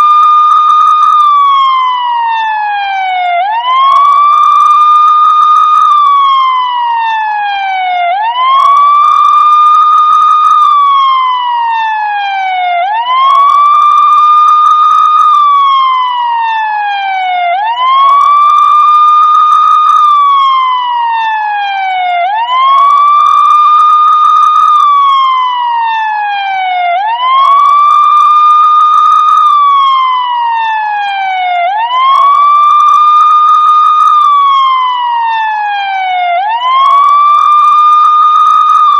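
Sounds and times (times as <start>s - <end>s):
police siren ringtone wail: 0.0s - 38.9s.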